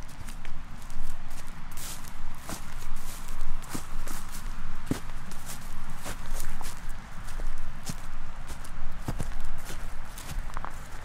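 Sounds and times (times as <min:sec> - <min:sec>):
footsteps crunching through dry grass: 0:00.0 - 0:11.0.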